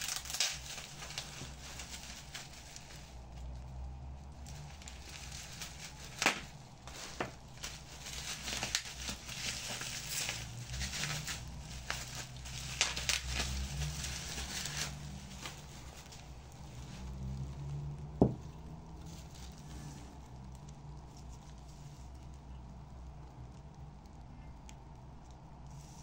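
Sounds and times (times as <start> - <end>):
rustling and handling noises: 0.0 - 26.0.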